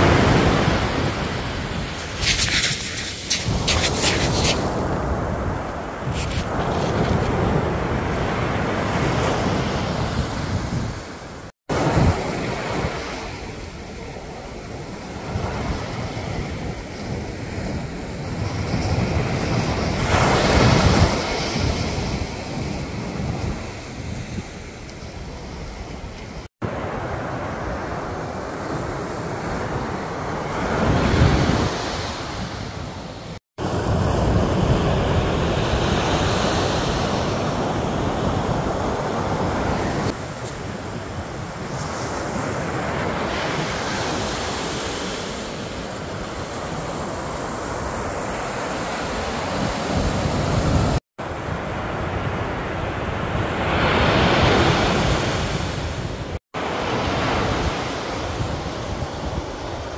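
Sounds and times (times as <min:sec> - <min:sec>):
wind buffeting microphone: 0:00.0 - 0:26.8, 0:27.5 - 0:59.9
waves crashing on beach: 0:00.0 - 0:59.9.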